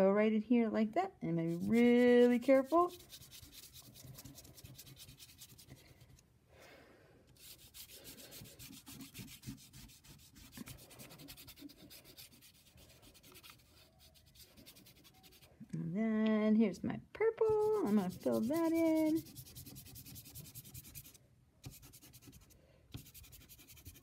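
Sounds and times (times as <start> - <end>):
chalk pastel scratching on paper: 1.4 - 6.0, 7.4 - 15.5, 17.5 - 24.0.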